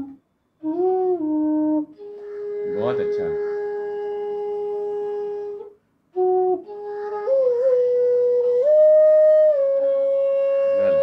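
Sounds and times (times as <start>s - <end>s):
bass flute playing: 0.0s - 11.0s.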